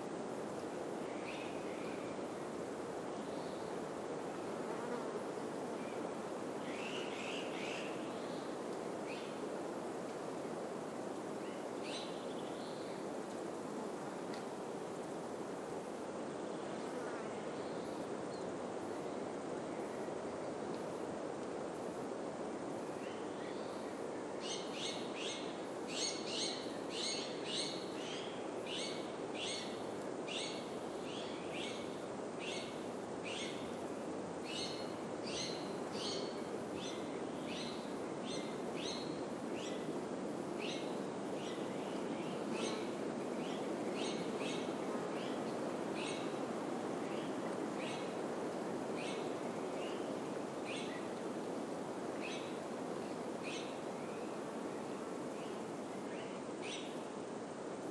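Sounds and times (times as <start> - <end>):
wind through pine trees: 0.0 - 57.9.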